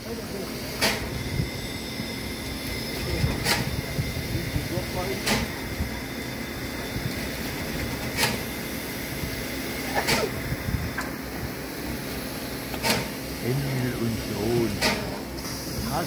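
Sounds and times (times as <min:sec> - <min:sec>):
steam locomotive hiss and hum: 0:00.0 - 0:16.0.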